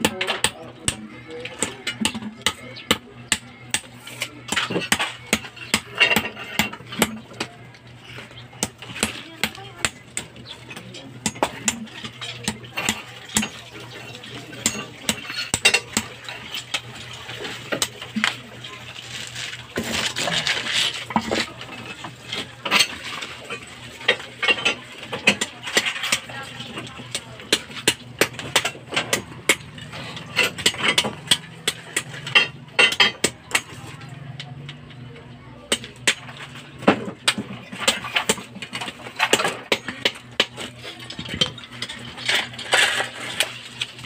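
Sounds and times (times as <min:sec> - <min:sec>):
hammer chipping concrete: 0:00.0 - 0:18.4, 0:24.1 - 0:33.8, 0:35.7 - 0:43.6.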